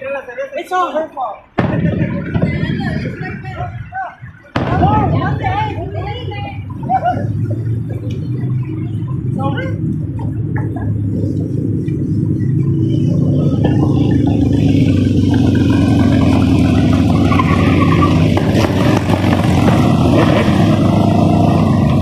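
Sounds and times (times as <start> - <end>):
road noise while driving: 0.0 - 22.0
car engine: 1.6 - 22.0.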